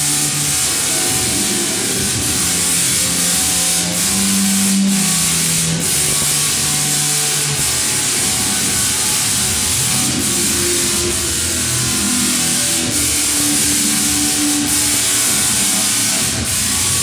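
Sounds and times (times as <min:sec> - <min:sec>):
tesla coil crackling hiss: 0:00.0 - 0:17.0.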